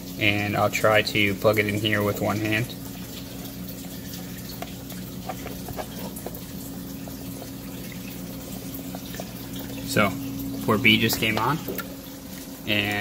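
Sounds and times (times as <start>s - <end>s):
aquarium pumps humming: 0.0s - 13.0s
water circulating: 0.0s - 13.0s.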